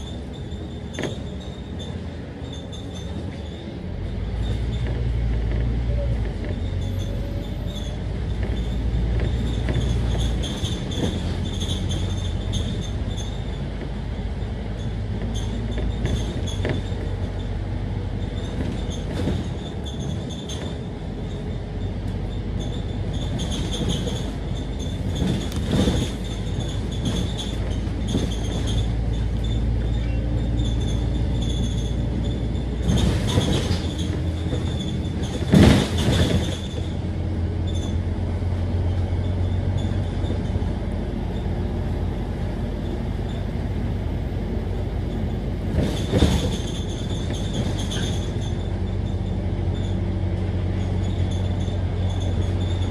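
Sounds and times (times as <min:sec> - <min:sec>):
bus diesel engine rumble: 0:00.0 - 0:52.9.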